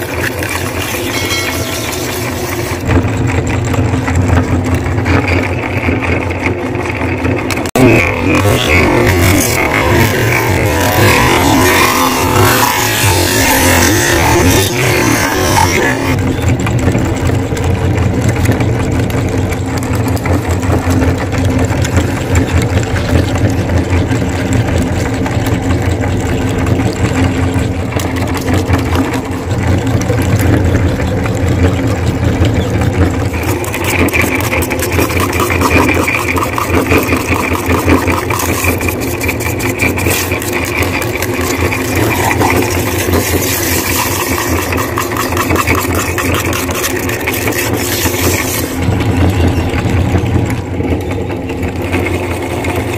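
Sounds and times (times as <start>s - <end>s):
meat grinder running: 0.0s - 52.9s.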